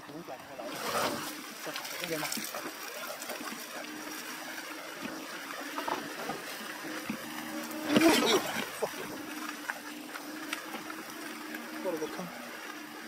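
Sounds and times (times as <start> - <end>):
tyres splashing on wet mud: 0.6 - 12.6.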